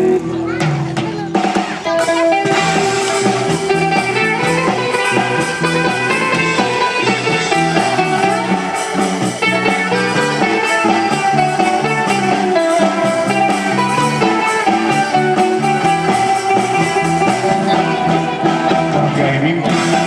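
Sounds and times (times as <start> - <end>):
electric guitars: 0.0 - 20.0
electronic drum kit beat: 0.0 - 20.0
steady low bass notes: 2.3 - 20.0.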